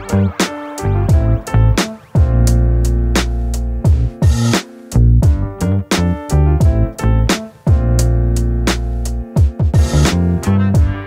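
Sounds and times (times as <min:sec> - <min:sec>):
deep bass: 0:00.0 - 0:11.0
drum machine hits: 0:00.4 - 0:11.0.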